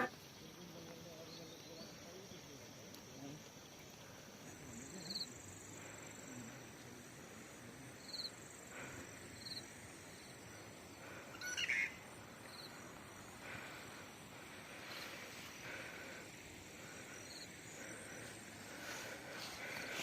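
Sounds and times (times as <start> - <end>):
faint insect buzz: 0.0 - 20.0.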